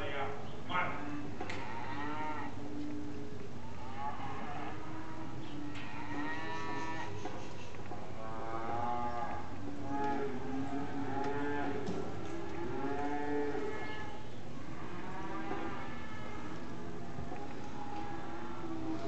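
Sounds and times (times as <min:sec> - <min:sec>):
cattle mooing: 0:01.0 - 0:07.2, 0:08.2 - 0:19.0.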